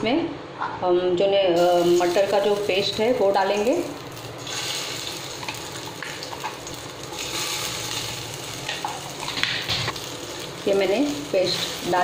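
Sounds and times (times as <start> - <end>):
paste sizzling in hot oil: 1.6 - 12.0.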